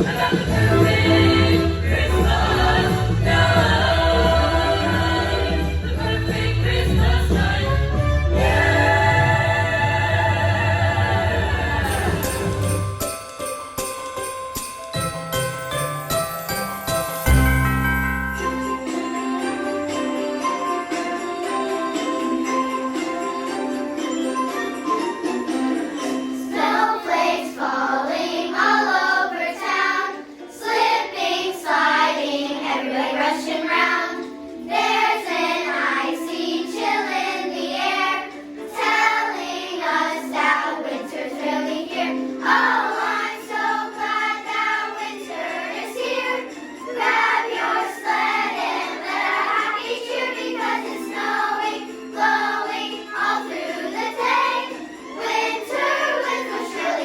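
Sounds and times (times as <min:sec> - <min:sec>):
children's choir singing: 0:00.0 - 0:13.2, 0:17.1 - 0:57.0.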